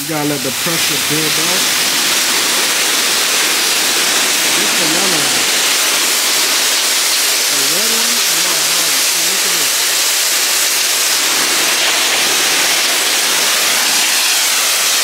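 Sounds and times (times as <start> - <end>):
pressure washer spraying stone: 0.0 - 15.0.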